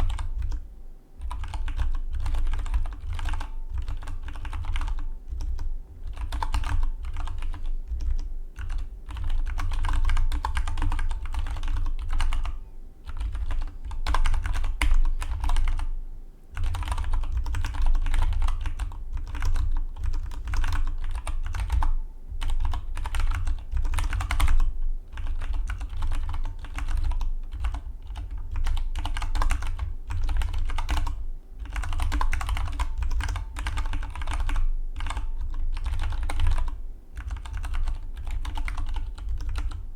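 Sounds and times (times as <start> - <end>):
fast mechanical keyboard typing: 0.0 - 0.6, 1.2 - 15.9, 16.5 - 39.8.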